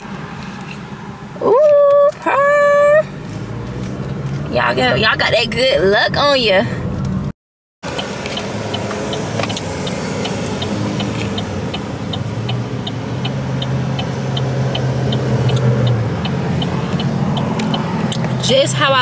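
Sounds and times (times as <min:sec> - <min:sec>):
turn signal ticking: 0:01.4 - 0:19.0.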